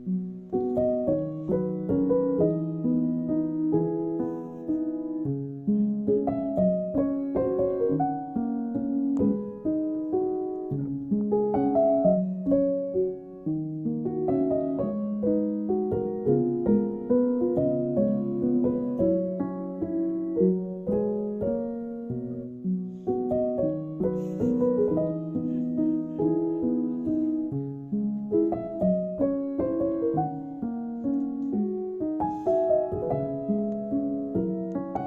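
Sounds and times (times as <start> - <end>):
gentle solo piano: 0.0 - 35.0.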